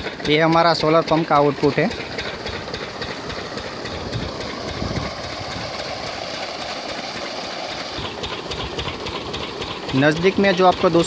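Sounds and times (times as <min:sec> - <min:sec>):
diesel pump engine running: 0:00.0 - 0:11.0
water gushing onto ground: 0:00.0 - 0:11.0.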